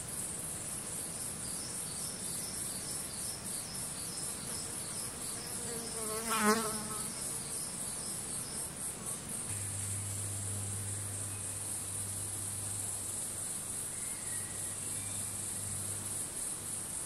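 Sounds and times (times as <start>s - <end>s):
insects chirping in pulsing trill: 0.0s - 17.0s.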